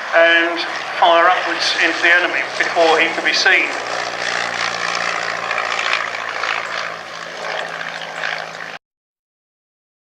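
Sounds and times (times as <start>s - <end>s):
biplane engine droning: 0.0s - 8.8s.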